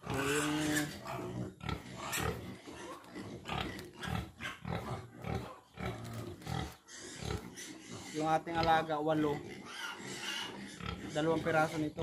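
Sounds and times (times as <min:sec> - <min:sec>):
piglets grunting: 0:00.0 - 0:12.0.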